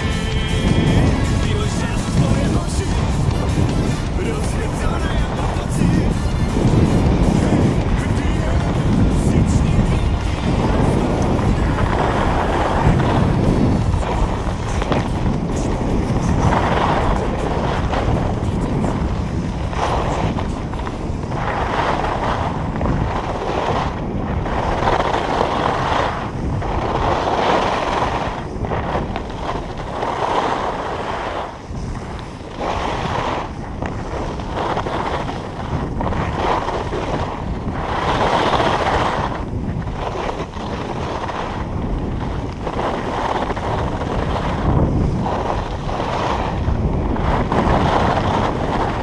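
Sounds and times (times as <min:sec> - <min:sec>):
skis scraping over snow: 0:00.0 - 0:49.0
wind rushing over microphone: 0:00.0 - 0:49.0.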